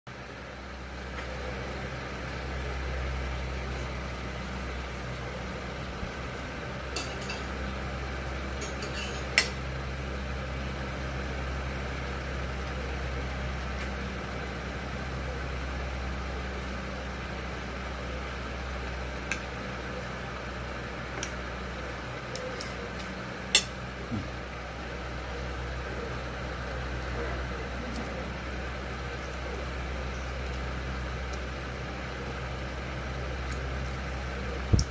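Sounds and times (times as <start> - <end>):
low mechanical hum: 0.1 - 34.9.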